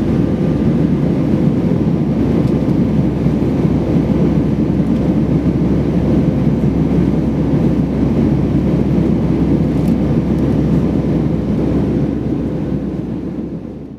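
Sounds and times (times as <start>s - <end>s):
airplane cabin engine rumble: 0.0s - 13.9s.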